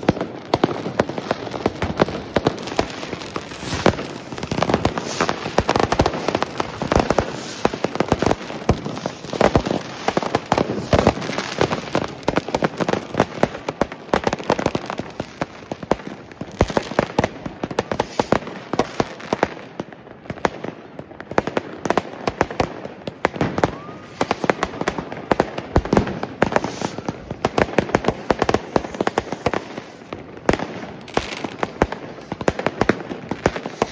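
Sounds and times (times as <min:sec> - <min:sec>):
fireworks and firecrackers banging: 0:00.0 - 0:33.9.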